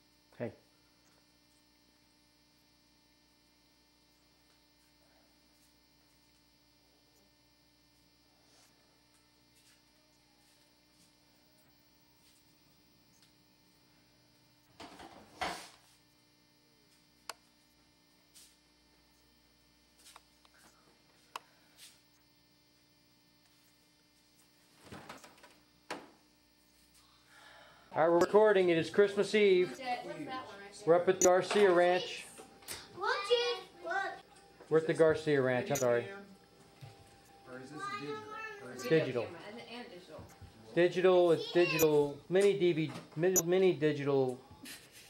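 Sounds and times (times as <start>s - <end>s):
faint electrical hum: 0.0s - 45.0s.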